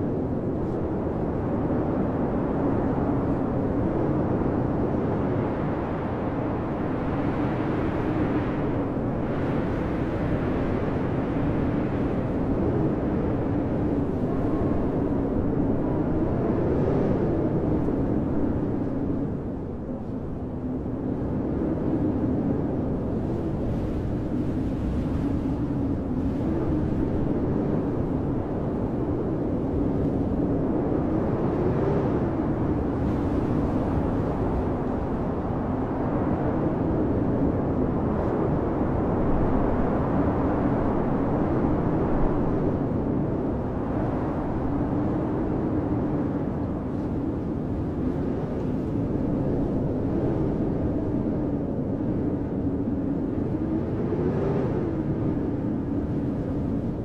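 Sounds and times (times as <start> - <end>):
blizzard wind howling: 0.0 - 57.0.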